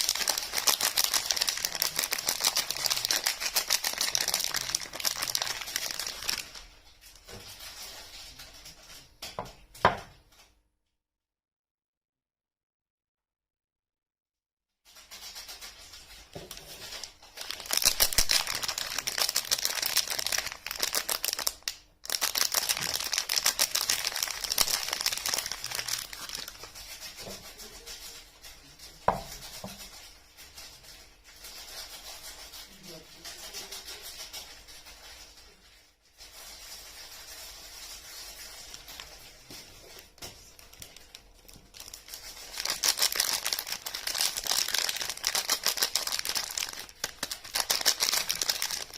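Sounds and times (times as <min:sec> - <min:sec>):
wrappers crinkling and tearing: 0:00.0 - 0:09.1, 0:15.0 - 0:48.9.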